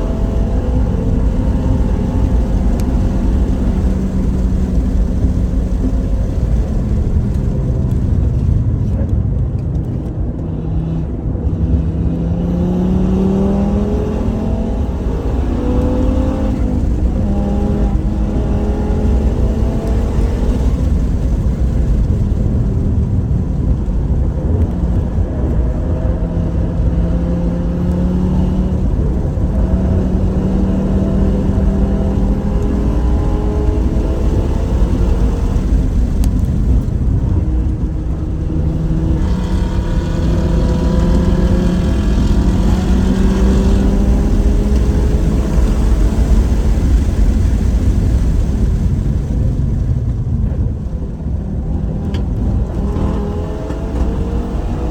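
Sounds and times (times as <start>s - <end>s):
car engine accelerating: 0.0s - 54.9s
road and wind rumble: 0.0s - 54.9s.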